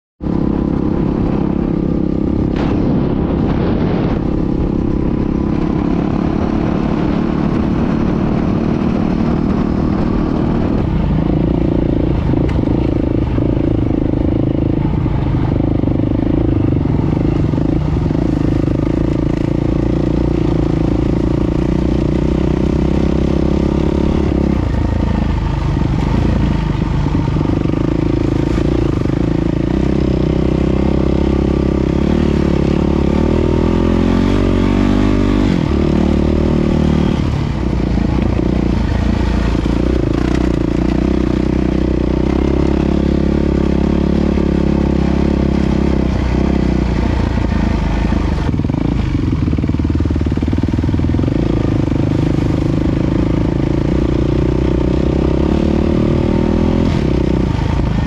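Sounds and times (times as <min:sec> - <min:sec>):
motorcycle engine running: 0:00.2 - 0:58.0.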